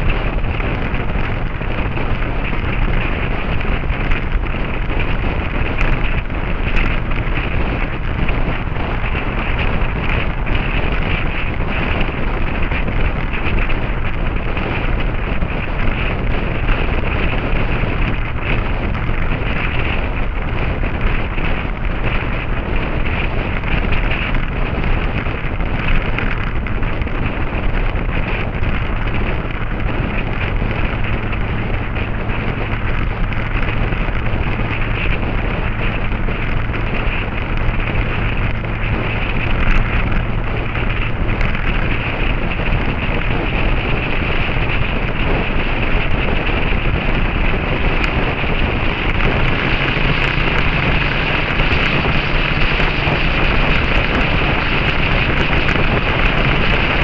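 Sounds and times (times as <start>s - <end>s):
motorcycle engine drone: 0.0s - 57.0s
wind buffeting microphone: 0.0s - 57.0s.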